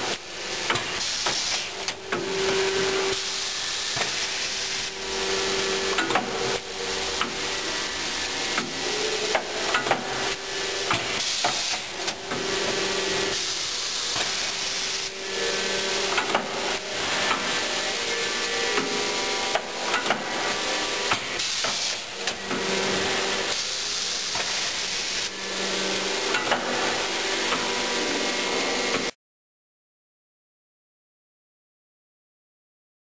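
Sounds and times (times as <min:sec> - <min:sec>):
air hiss: 0:00.0 - 0:29.1.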